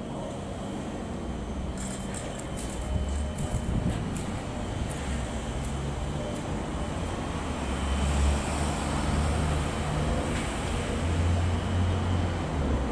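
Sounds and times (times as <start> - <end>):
rumble of vehicles: 0.0 - 12.9.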